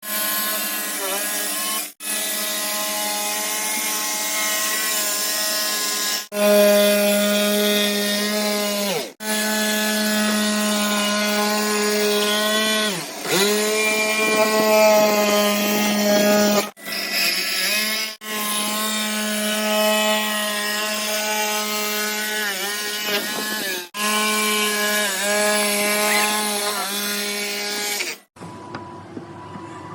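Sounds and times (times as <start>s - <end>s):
electric jigsaw cutting plywood: 0.0s - 28.3s.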